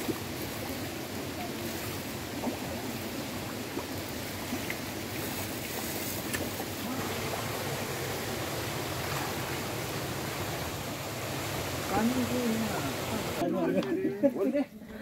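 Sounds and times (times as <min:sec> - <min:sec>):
water splashing over rocks: 0:00.0 - 0:13.4.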